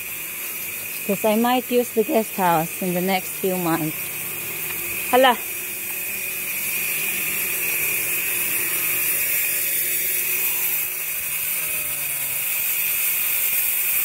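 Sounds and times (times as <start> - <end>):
power tool whining: 0.0 - 14.0.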